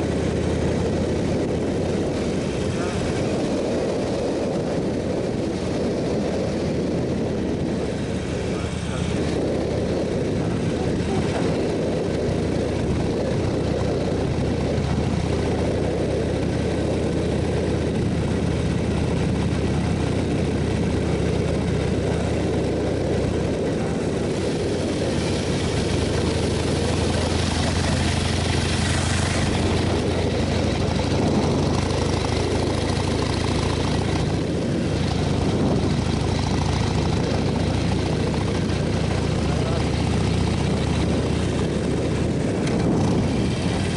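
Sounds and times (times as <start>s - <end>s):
motorcycle engine running: 0.0s - 43.9s
wind noise: 0.0s - 43.9s.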